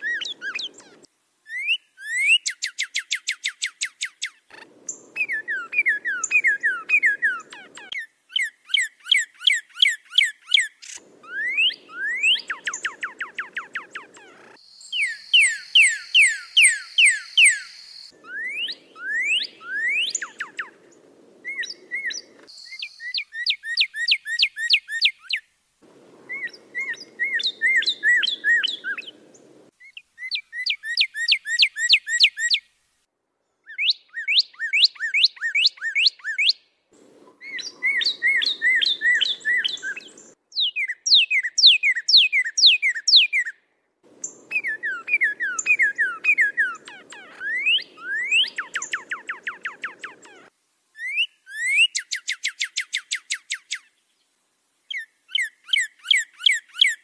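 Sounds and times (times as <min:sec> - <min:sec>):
songbird whistling song: 0:00.0 - 0:25.5, 0:26.1 - 0:32.7, 0:33.6 - 0:43.6, 0:44.2 - 0:54.0, 0:54.9 - 0:57.0.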